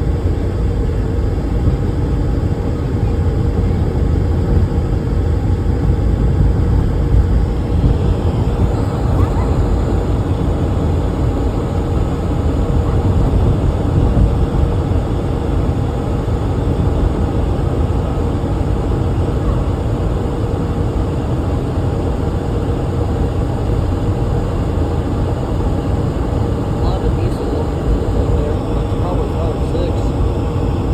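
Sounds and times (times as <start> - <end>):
air-conditioning blower rushing: 0.0 - 30.9.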